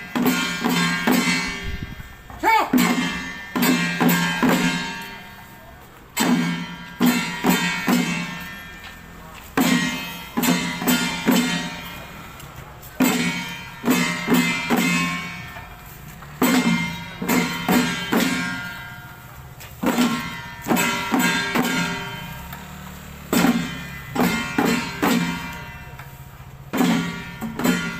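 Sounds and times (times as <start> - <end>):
cymbals struck: 0.0 - 27.9
gongs struck: 0.0 - 27.9.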